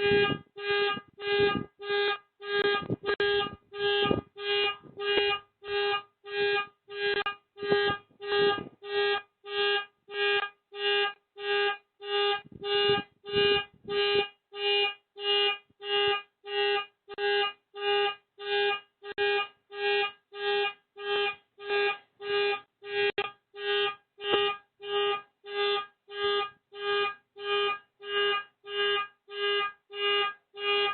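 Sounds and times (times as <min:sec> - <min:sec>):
car alarm pulsing: 0:00.0 - 0:30.9.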